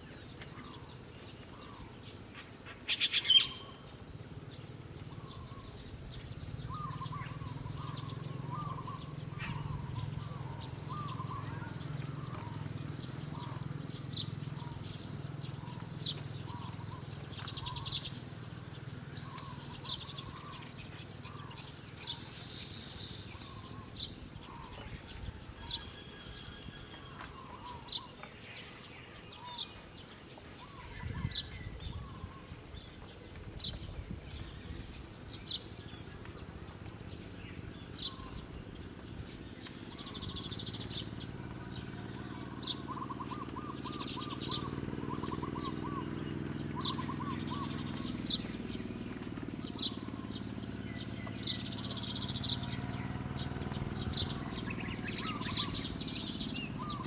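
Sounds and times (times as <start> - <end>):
birds chirping: 0.0 - 57.0
steady low hum: 3.5 - 57.0.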